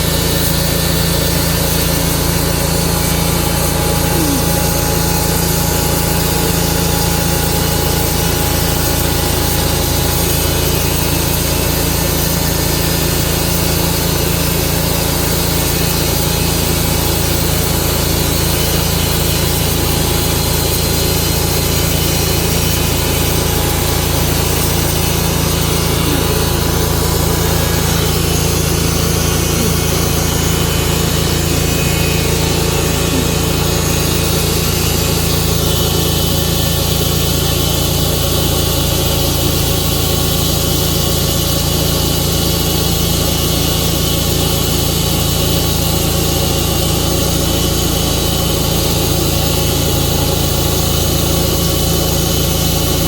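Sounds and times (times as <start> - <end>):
saw blade cutting log: 0.0 - 52.1
sawmill engine droning: 0.0 - 53.0.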